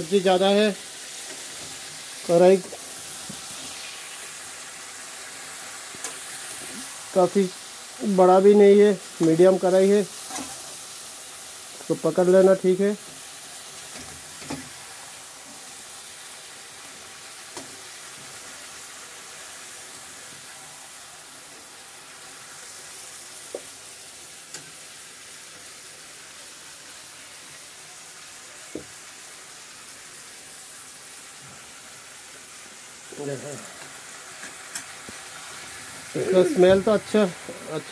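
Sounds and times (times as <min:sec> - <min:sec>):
vegetables sizzling in a pan: 0:00.0 - 0:37.9.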